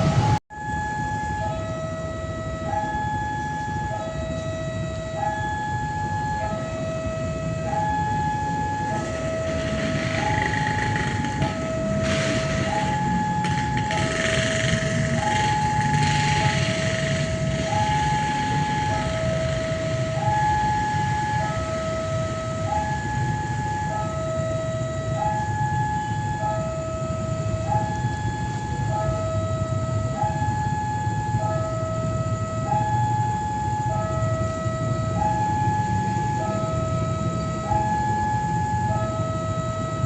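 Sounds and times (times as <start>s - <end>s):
low machinery rumble: 0.0s - 40.0s
two-tone crossing alarm: 0.0s - 40.0s.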